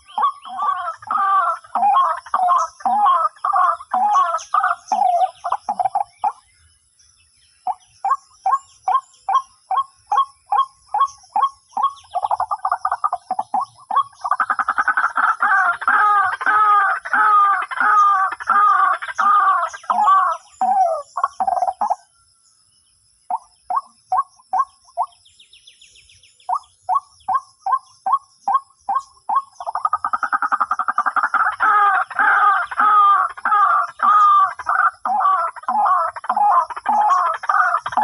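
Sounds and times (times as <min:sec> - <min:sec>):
bird croaking calls: 0:00.0 - 0:06.6, 0:07.6 - 0:22.1, 0:23.2 - 0:25.3, 0:26.4 - 0:38.0.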